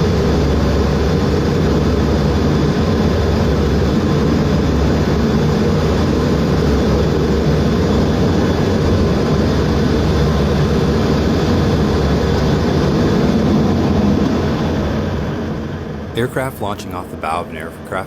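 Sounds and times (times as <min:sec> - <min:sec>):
jet engine rumbling: 0:00.0 - 0:18.0.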